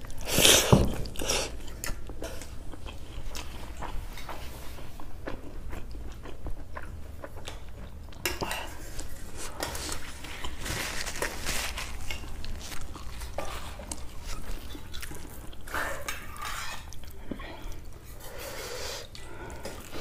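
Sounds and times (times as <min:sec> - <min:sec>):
chewing and mouth sounds: 0:00.0 - 0:18.2.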